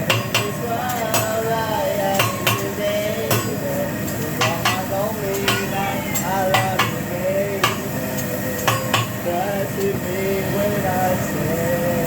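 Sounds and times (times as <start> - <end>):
metal spatulas clacking on griddle: 0.0 - 10.1
low cooking sizzle: 0.0 - 12.0.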